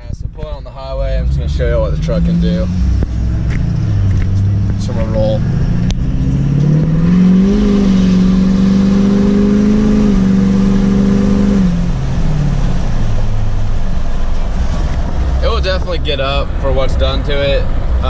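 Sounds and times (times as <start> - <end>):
diesel engine accelerating: 0.0 - 18.0.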